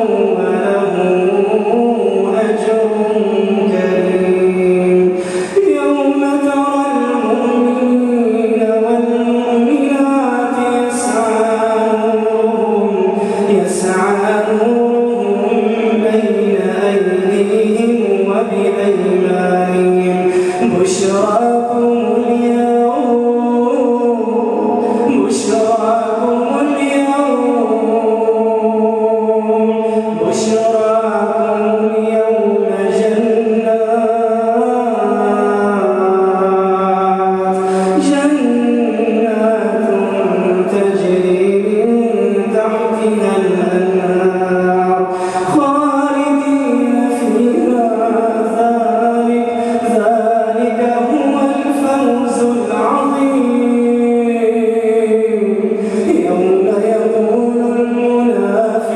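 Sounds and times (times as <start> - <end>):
man chanting recitation: 0.0 - 58.9.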